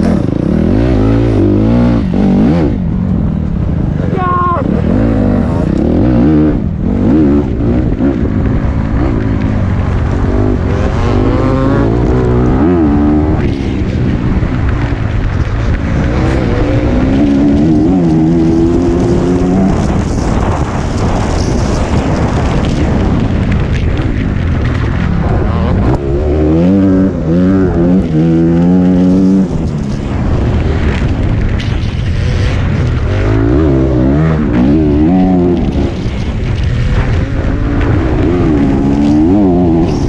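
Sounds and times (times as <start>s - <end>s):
motorcycle engine revving: 0.0s - 40.0s
wind and track noise: 0.0s - 40.0s.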